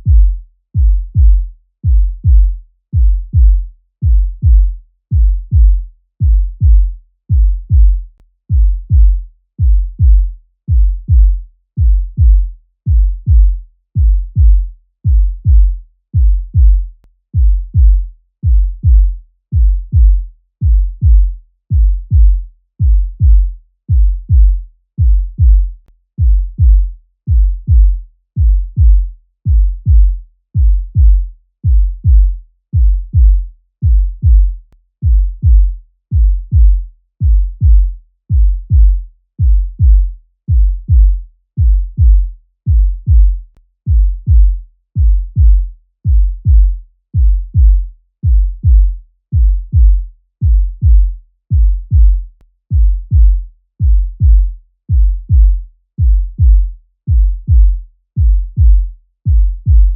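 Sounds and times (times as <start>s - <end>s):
heartbeat double thump: 0.0s - 59.9s.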